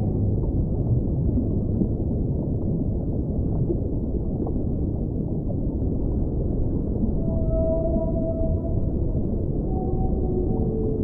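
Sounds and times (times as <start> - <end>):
underwater ocean rumble: 0.0 - 11.0.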